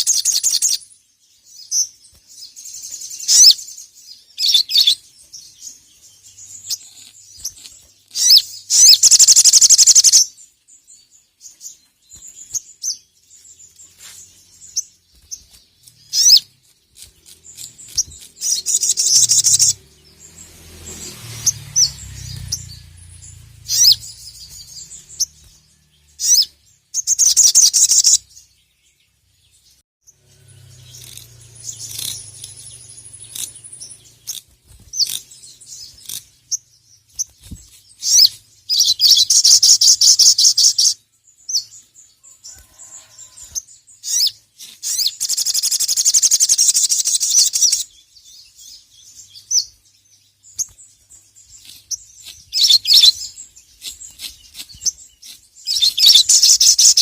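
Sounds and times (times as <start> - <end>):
sunbird rapid chirping trills: 0.0 - 57.0.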